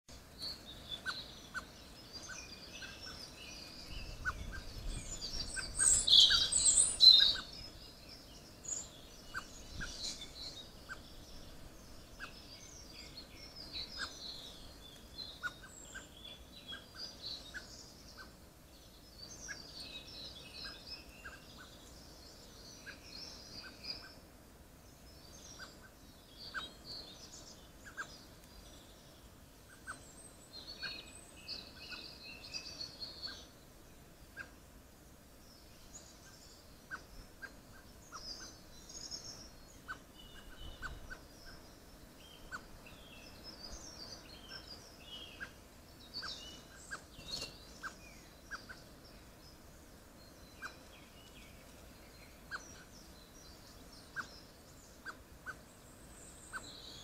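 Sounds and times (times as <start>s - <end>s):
birds singing and chirping: 0.1s - 34.8s, 35.4s - 57.0s.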